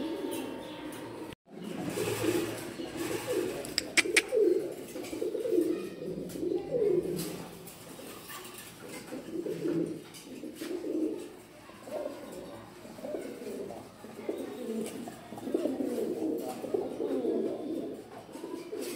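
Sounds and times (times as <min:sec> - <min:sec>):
pigeons cooing: 0:00.0 - 0:18.9.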